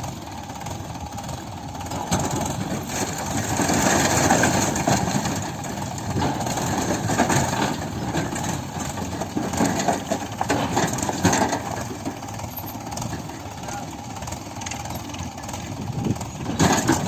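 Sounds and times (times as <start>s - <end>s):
diesel engine running: 0.0s - 17.0s
knocks and rattles: 1.8s - 17.0s.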